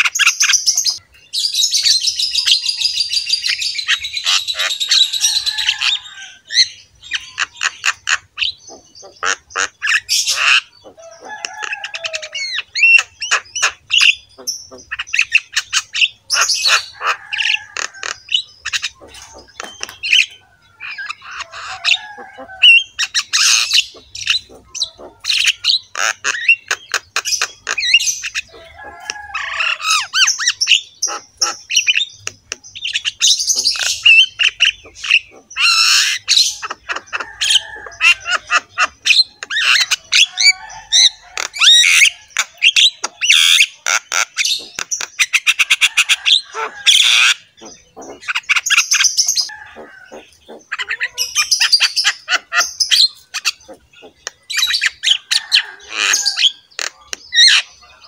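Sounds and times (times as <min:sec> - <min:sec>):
birds squawking: 0:00.0 - 0:58.0.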